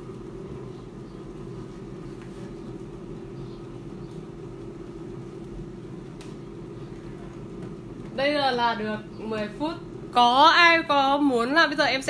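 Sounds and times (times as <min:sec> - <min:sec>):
air fryer fan whirring: 0:00.0 - 0:12.0.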